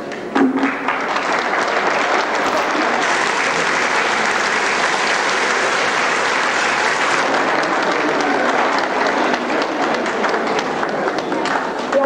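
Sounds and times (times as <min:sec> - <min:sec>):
large audience applauding: 0:00.1 - 0:12.0.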